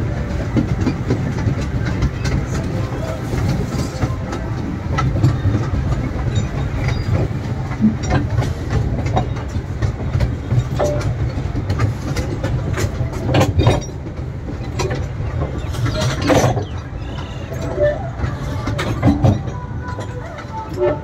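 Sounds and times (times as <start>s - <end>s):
toy train rumbling: 0.0s - 21.0s
wheels clacking and rattling: 0.0s - 21.0s.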